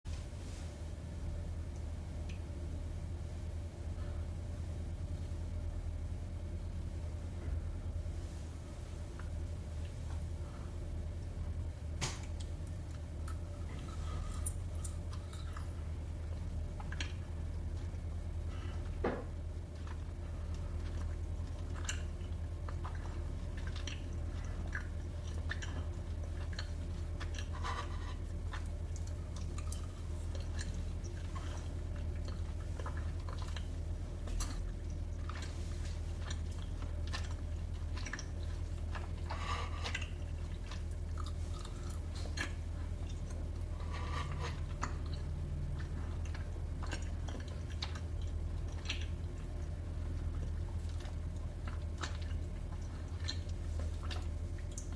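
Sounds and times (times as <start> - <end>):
steady low hum: 0.1 - 54.9
close chewing and crunching: 9.0 - 54.9.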